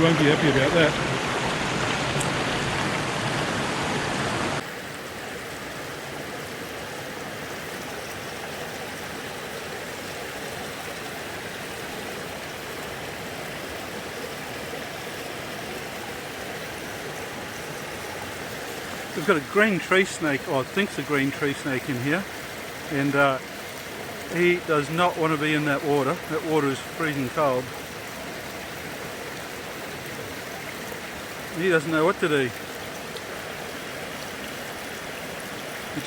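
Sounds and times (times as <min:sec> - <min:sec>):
creek and waterfall rushing: 0:00.0 - 0:36.0.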